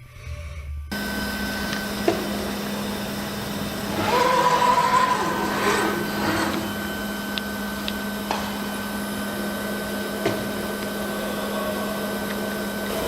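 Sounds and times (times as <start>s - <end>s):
machinery hum: 0.0s - 13.0s
high whine: 0.9s - 13.0s.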